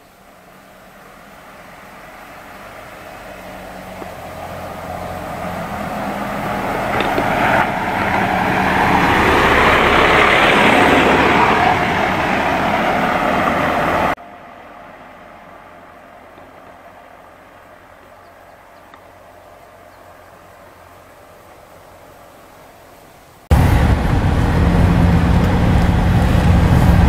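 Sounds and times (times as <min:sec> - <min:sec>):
small diesel truck driving: 0:00.0 - 0:22.6, 0:23.5 - 0:27.0.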